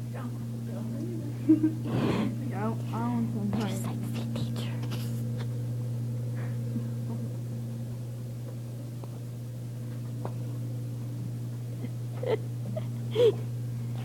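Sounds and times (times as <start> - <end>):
ventilation fan hum: 0.0 - 14.0.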